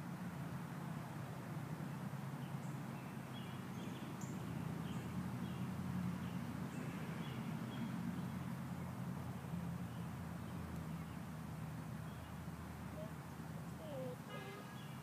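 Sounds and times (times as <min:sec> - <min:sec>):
small birds chirping: 0:02.4 - 0:15.0.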